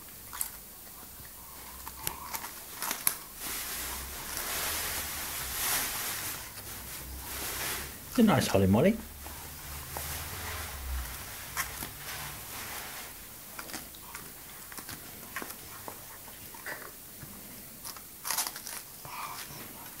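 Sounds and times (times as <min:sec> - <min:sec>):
dog crunching cabbage: 0:00.0 - 0:08.5, 0:09.2 - 0:20.0.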